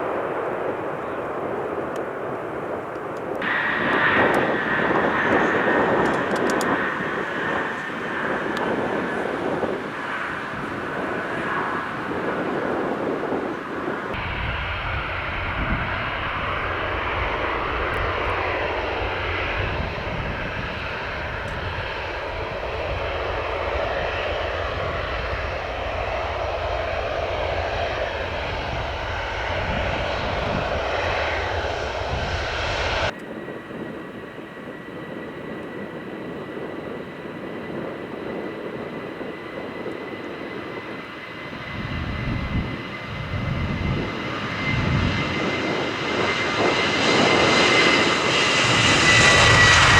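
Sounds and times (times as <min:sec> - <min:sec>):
jet engine high whine: 0:00.0 - 0:49.9
jet engines rumbling: 0:00.0 - 0:49.9.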